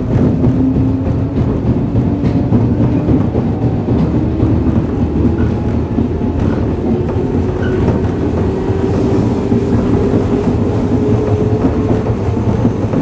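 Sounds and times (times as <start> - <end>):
train motor whine: 0.0 - 13.0
train wheel and rail rumble: 0.0 - 13.0.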